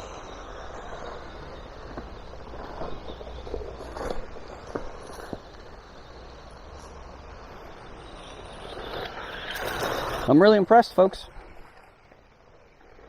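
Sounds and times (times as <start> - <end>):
rc car rustling over ground: 0.0 - 13.0.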